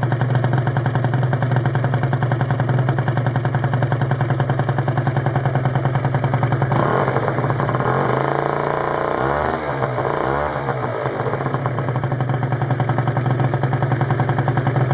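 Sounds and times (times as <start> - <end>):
scooter engine idling and revving: 0.0 - 14.9.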